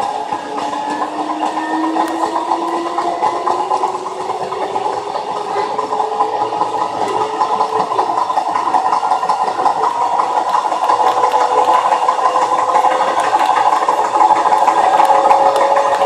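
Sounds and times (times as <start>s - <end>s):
electric train motor whine: 0.0s - 16.0s
train car clatter and rumble: 0.0s - 16.0s.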